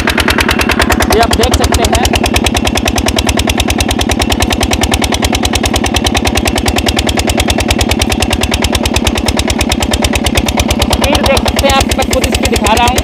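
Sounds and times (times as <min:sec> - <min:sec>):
diesel pump engine knocking: 0:00.0 - 0:13.0.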